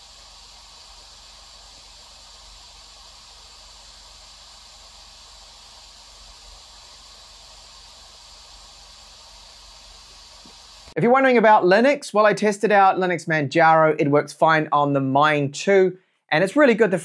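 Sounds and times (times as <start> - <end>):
cooling fan hiss: 0.0 - 17.0.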